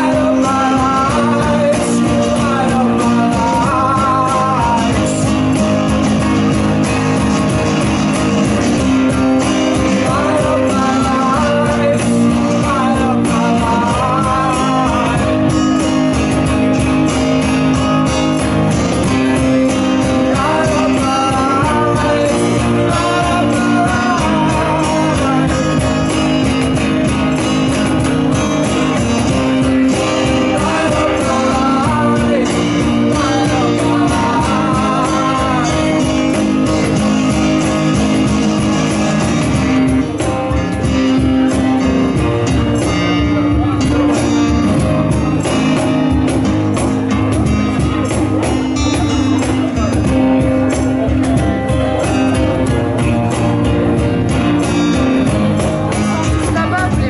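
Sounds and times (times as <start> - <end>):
acoustic guitars: 0.0 - 57.0
cajon beat: 0.0 - 57.0.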